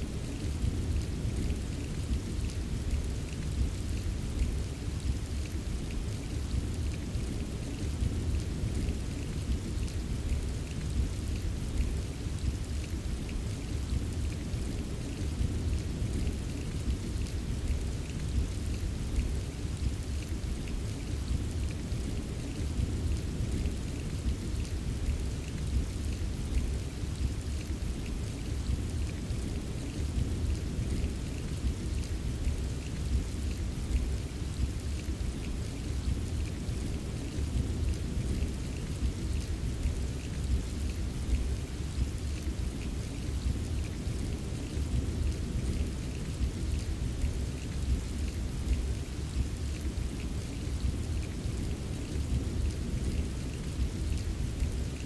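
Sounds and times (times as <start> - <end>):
constant low rumble: 0.0 - 55.0
rainfall: 0.0 - 55.0.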